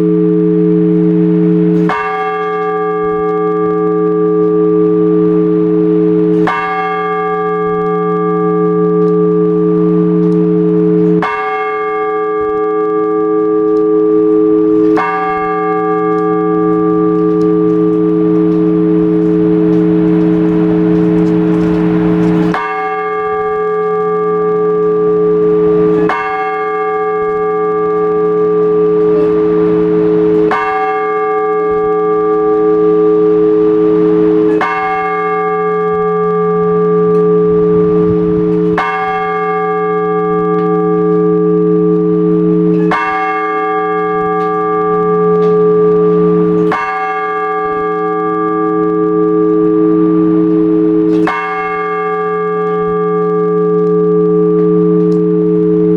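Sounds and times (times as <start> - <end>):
church bell tolling: 0.0 - 55.9.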